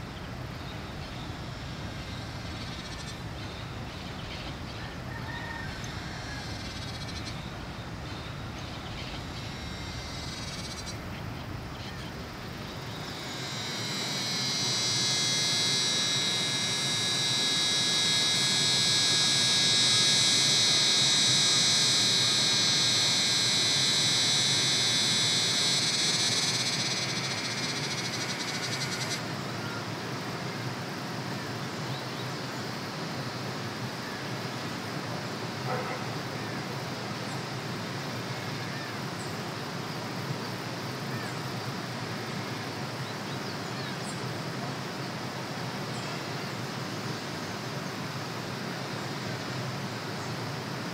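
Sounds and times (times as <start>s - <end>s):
high buzzing animal chorus: 0.0s - 32.0s, 33.4s - 50.9s.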